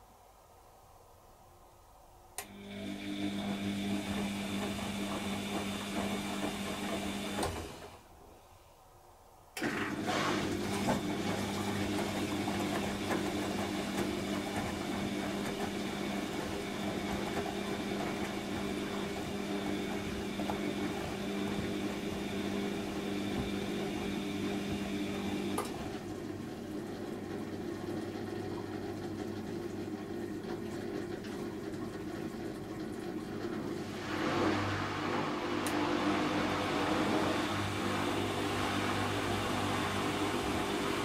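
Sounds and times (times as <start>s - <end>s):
washing machine hum: 2.0s - 41.0s
drain pump running: 2.4s - 8.1s, 9.6s - 41.0s.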